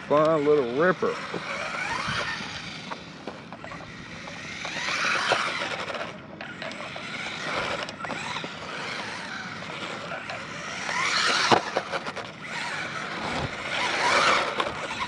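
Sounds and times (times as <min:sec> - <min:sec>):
electric motor whining: 0:00.0 - 0:15.0
tires scrubbing on pavement: 0:00.0 - 0:15.0.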